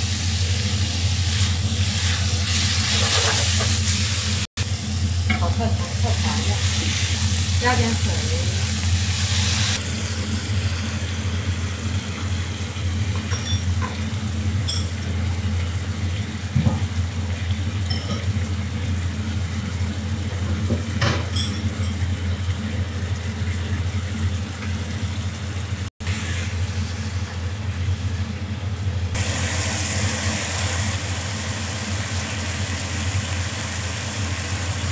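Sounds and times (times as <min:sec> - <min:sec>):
food sizzling in a wok: 0:00.0 - 0:21.0, 0:26.0 - 0:28.1, 0:29.1 - 0:34.9.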